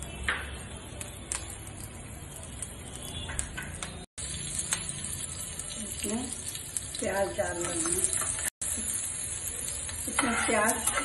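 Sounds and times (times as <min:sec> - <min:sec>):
seeds sizzling in hot oil: 0:00.0 - 0:11.0.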